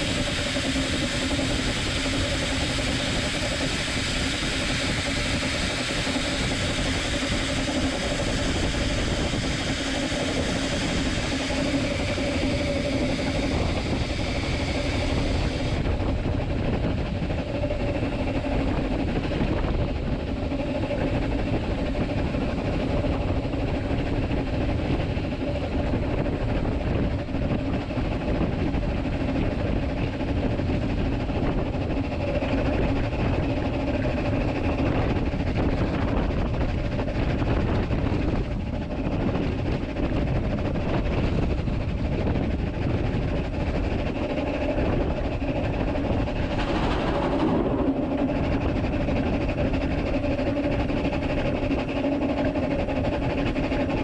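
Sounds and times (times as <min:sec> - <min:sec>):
steam locomotive wheels rumbling on rail: 0:00.0 - 0:54.0.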